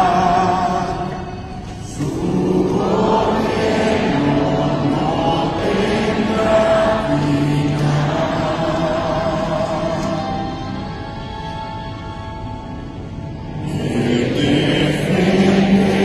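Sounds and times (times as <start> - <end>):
congregation singing a hymn: 0.0 - 10.9, 13.5 - 16.0.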